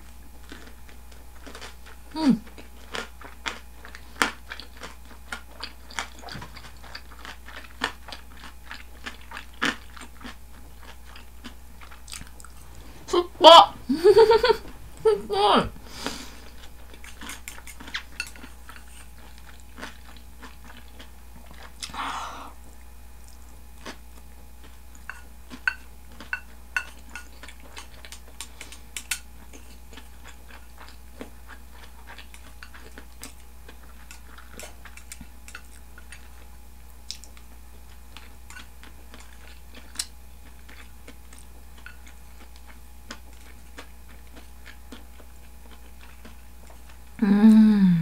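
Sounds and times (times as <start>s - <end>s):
person chewing: 0.0s - 48.0s
steady low hum: 0.0s - 48.0s.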